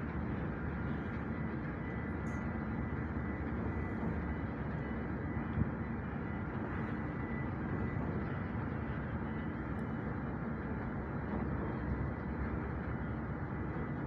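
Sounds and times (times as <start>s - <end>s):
faint steady whine: 0.0s - 14.0s
ship engines rumbling: 0.0s - 14.0s.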